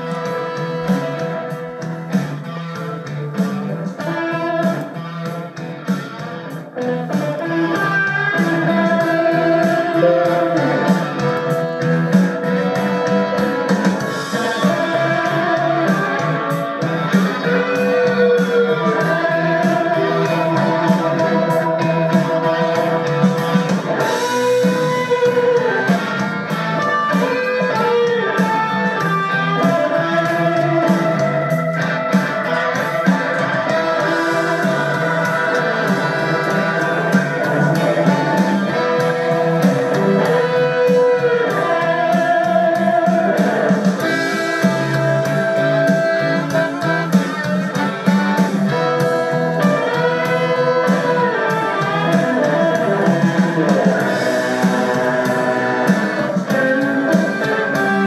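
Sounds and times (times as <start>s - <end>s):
guitar music through speaker: 0.0s - 58.0s.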